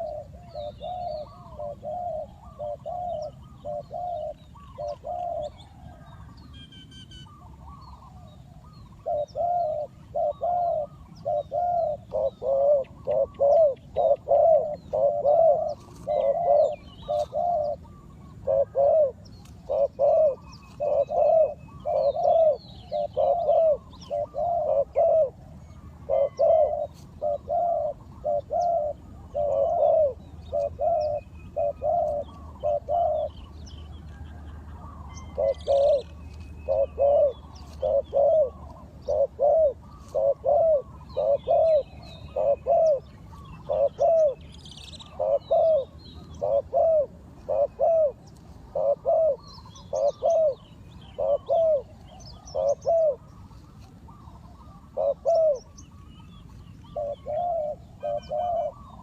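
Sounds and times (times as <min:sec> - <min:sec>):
dove cooing: 0:00.0 - 0:59.0
small birds chirping faintly: 0:00.0 - 0:59.0.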